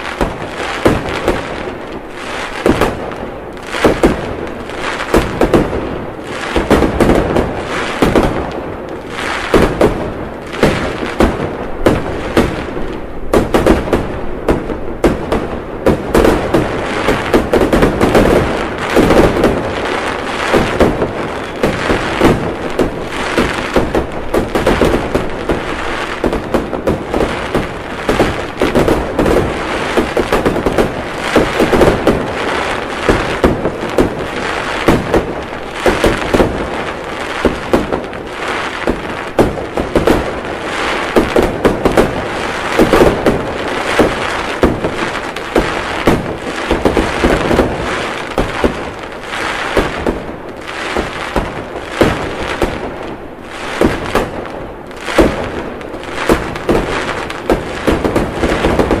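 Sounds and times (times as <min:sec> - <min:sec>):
fireworks cracking and banging: 0:00.0 - 0:59.0.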